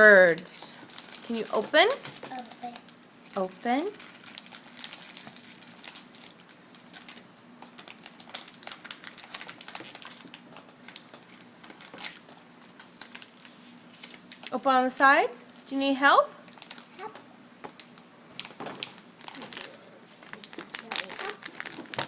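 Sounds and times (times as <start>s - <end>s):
plastic packet crackling: 0.8s - 14.6s, 16.4s - 22.0s.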